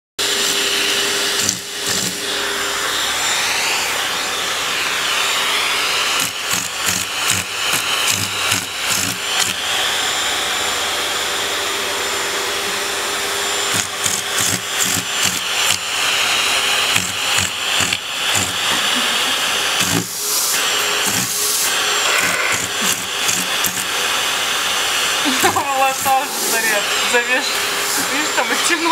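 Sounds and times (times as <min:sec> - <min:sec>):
vacuum cleaner suction: 0:00.2 - 0:28.9.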